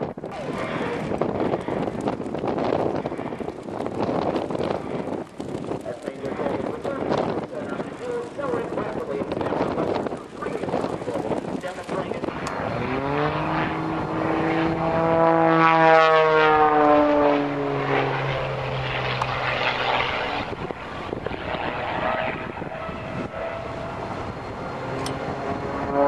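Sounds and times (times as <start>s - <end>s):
propeller airplane flying past: 0.0s - 26.0s.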